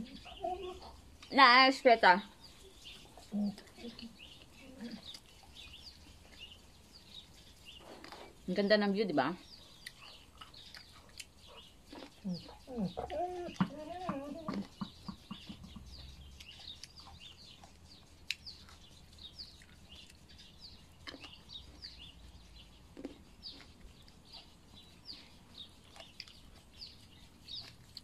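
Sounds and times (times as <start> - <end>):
songbirds chirping faintly: 0.0 - 28.0.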